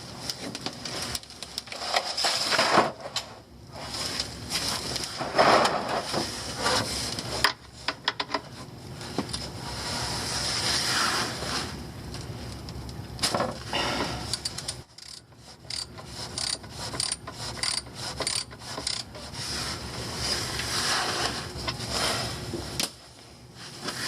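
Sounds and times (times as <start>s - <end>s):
rubbing and scraping handling noises: 0.0s - 12.5s, 13.5s - 24.0s.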